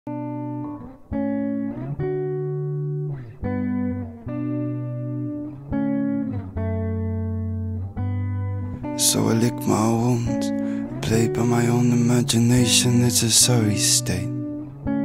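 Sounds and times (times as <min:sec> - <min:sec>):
guitar chords: 0:00.1 - 0:15.0.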